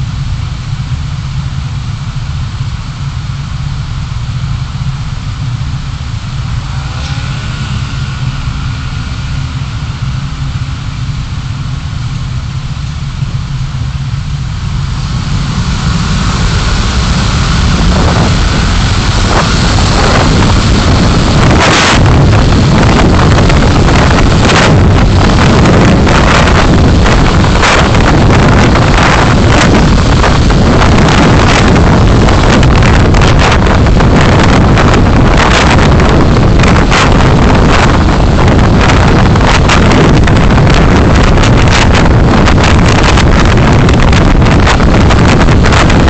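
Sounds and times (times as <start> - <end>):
engine and road rumble: 0.0 - 46.0
wind and tyre noise: 0.0 - 46.0
wind crackling on microphone: 4.8 - 46.0.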